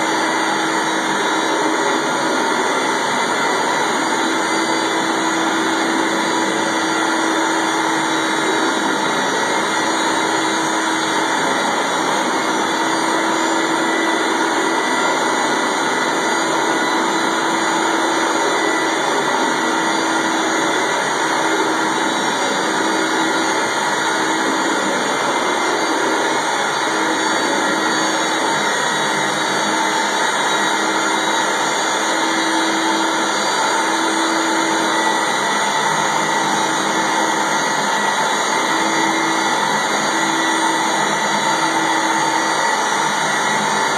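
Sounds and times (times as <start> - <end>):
carpet cleaner suction roar: 0.0 - 43.9.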